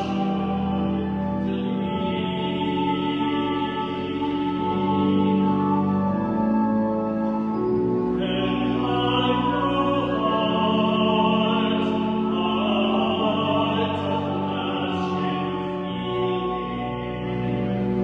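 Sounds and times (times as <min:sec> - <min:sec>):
organ chords: 0:00.0 - 0:18.0
person singing a hymn: 0:00.0 - 0:18.0.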